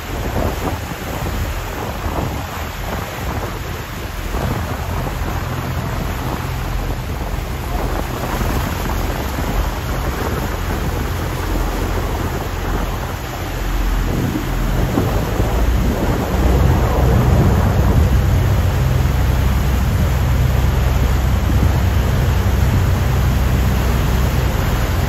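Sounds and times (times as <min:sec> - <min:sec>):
churning river: 0:00.0 - 0:25.0
waterfall roaring: 0:00.0 - 0:25.0.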